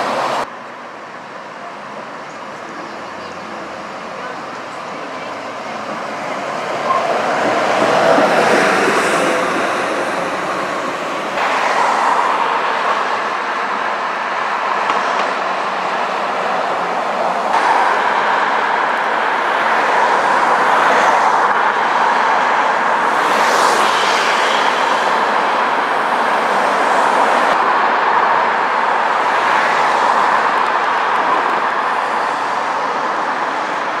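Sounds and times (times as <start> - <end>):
buses driving past: 0.0 - 34.0.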